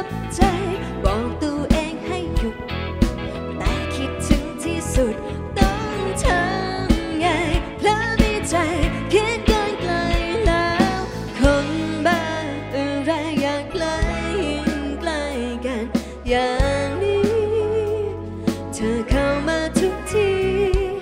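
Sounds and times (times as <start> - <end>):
live pop band playing: 0.0 - 21.0.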